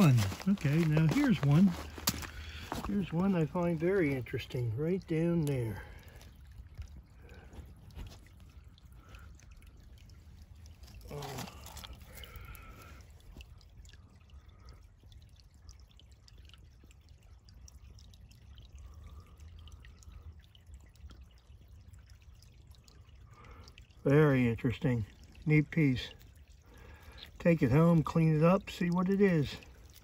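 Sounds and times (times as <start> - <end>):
creek water trickling over gravel: 0.0 - 30.0.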